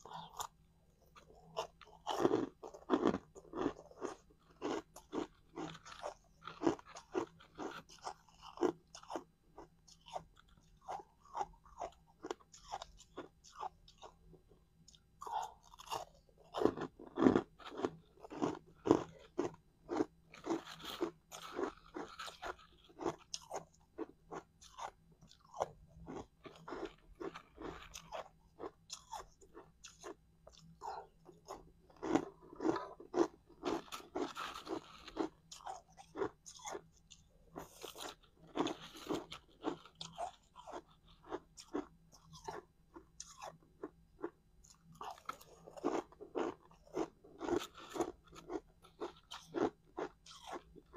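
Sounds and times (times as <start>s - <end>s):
crushed ice being chewed: 0.0s - 50.9s.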